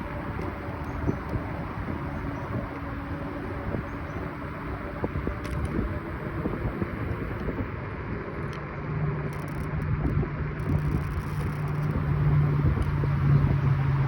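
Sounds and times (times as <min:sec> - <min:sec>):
steady low hum: 0:00.0 - 0:08.0, 0:10.6 - 0:14.0
wind noise: 0:00.0 - 0:08.5, 0:09.2 - 0:14.0
road rumble with rattle: 0:00.0 - 0:14.0.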